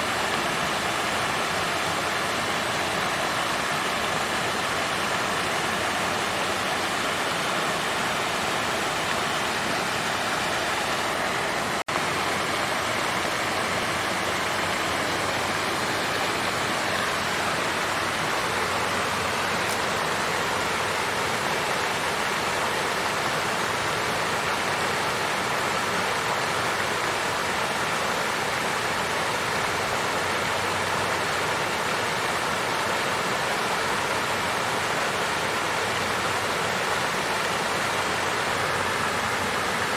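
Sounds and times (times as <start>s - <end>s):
water fountain flowing: 0.0s - 39.9s.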